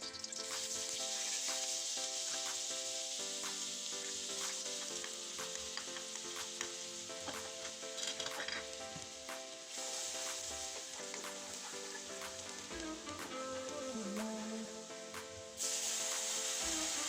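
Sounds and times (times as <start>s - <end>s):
food sizzling in a frying pan: 0.0s - 17.0s
soft background music: 0.0s - 17.0s.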